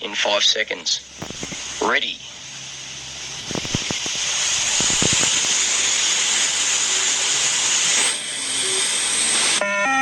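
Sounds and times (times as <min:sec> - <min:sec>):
steady loud hiss: 0:00.0 - 0:09.6.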